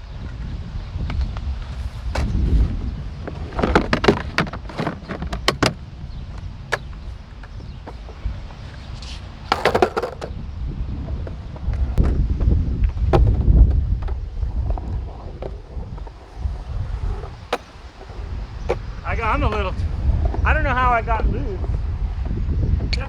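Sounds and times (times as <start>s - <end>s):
skateboard scraping: 0.0s - 22.5s
skateboard wheels rumbling on concrete: 0.0s - 23.0s
skateboard clacks and knocks: 0.2s - 12.2s, 12.8s - 20.4s.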